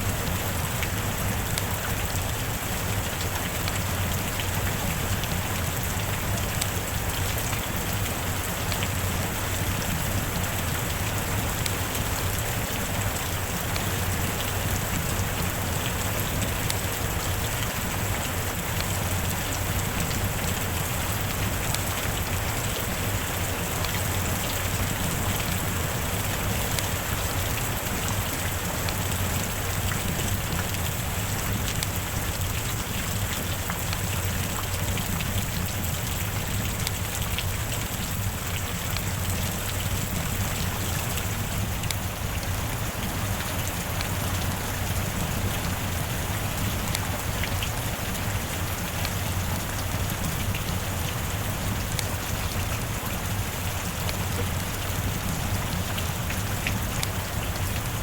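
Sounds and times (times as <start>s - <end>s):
heavy rain on hard surface: 0.0s - 58.0s.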